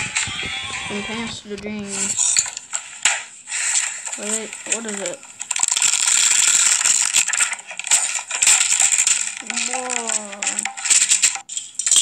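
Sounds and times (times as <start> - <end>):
flipbook pages riffling: 1.8 - 12.0.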